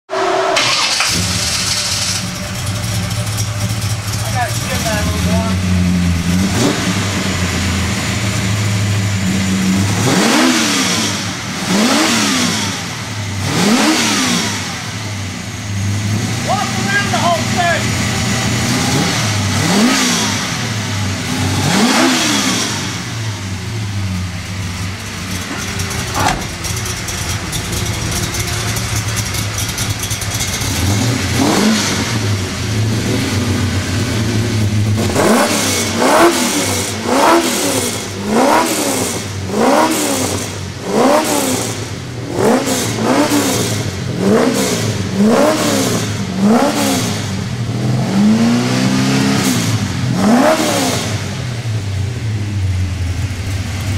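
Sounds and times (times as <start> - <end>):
engine idling and revving: 0.0 - 53.9.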